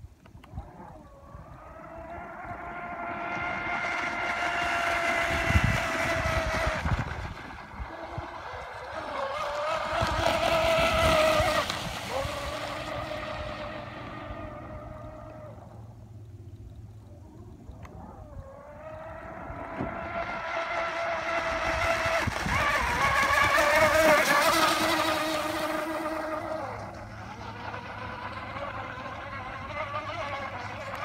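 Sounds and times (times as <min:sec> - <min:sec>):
electric motor high whine: 0:00.5 - 0:31.0.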